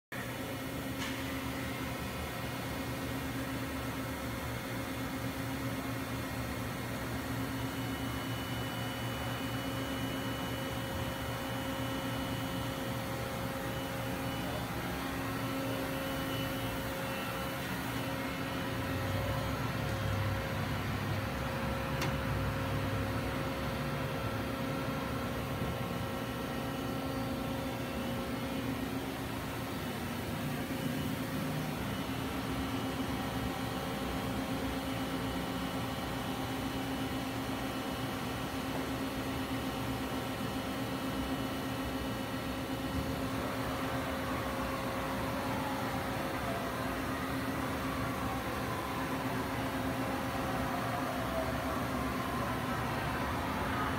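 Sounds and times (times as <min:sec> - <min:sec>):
industrial machinery humming: 0:00.2 - 0:53.9.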